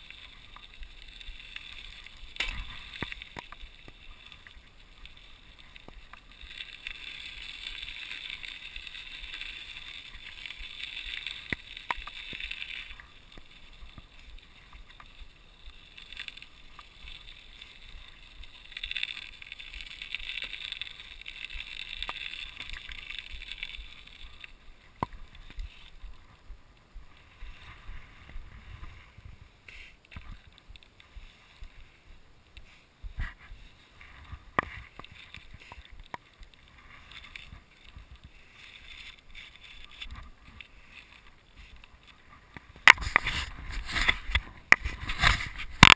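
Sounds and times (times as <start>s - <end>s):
sharp clicks from bike: 0.0s - 26.3s, 32.6s - 45.9s
bike tyres rolling over wet snow: 0.0s - 45.9s.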